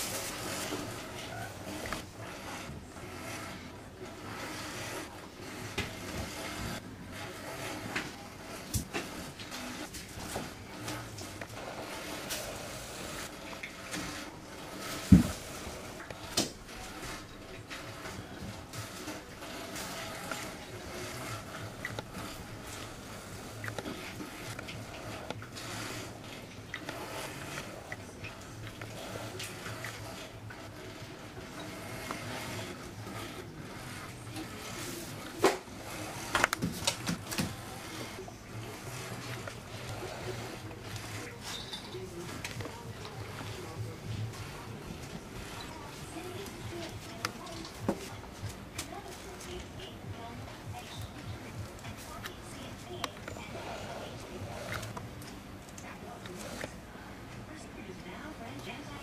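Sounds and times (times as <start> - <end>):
kittens scuffling: 0.0 - 56.9.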